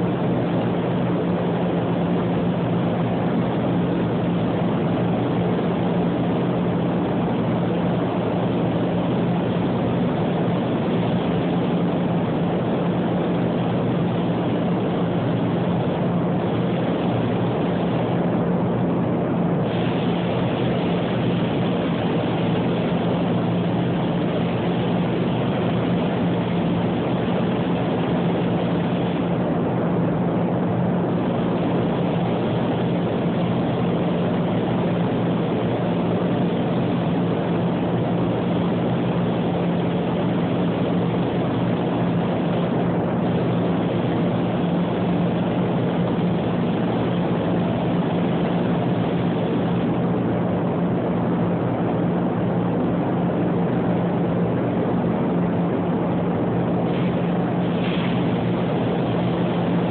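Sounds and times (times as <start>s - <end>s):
ventilation fans droning: 0.0s - 59.9s.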